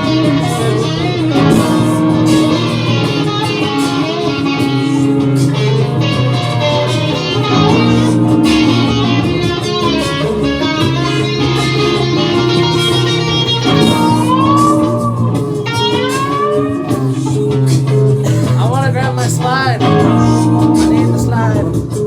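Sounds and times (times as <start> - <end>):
plucked electric guitar: 0.0 - 22.0
sustained bass: 0.0 - 22.0.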